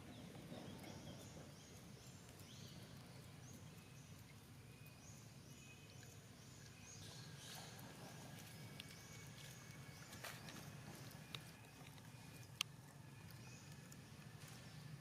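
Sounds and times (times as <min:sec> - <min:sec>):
low steady rumble: 0:00.0 - 0:15.0
small birds chirping: 0:00.0 - 0:15.0.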